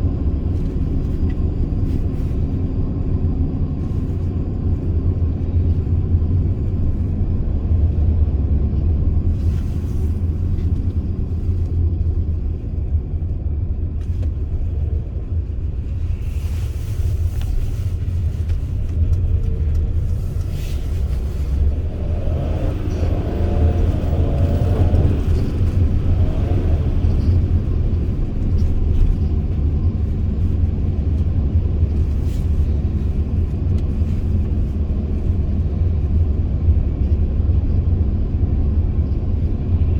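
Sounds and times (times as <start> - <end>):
road noise: 0.0 - 39.9
van engine rumble: 0.0 - 39.9.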